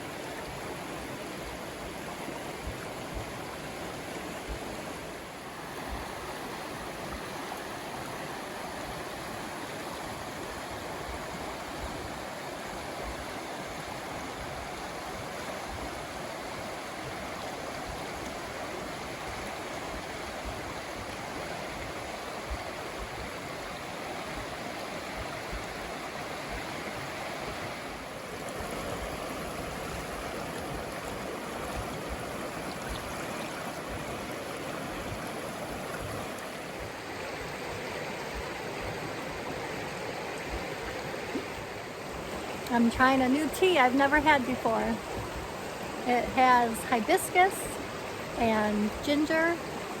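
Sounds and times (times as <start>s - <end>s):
river water rushing and gurgling: 0.0s - 50.0s.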